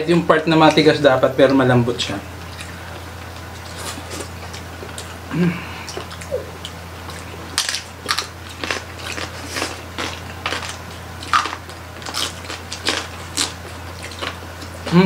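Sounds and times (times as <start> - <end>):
people chewing crunchy food: 2.3 - 15.0.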